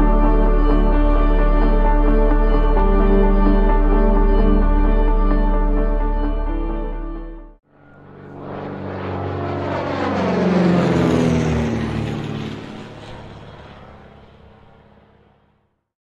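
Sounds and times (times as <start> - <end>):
propeller airplane flying past: 0.0 - 6.6, 7.6 - 15.8.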